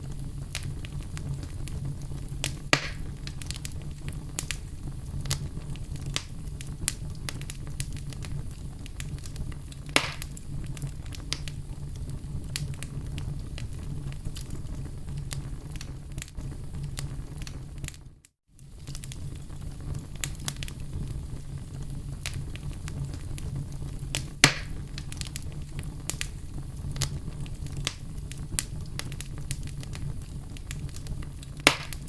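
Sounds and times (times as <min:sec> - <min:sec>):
loud fire pops: 0:00.0 - 0:32.0
wood fire crackling: 0:00.0 - 0:32.0.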